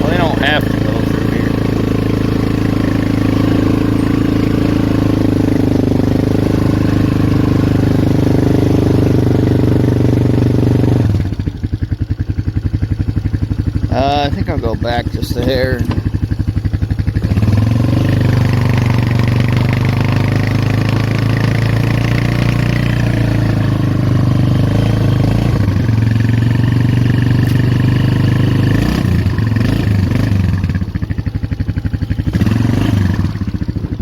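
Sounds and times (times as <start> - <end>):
atv engine revving high: 0.0 - 34.0.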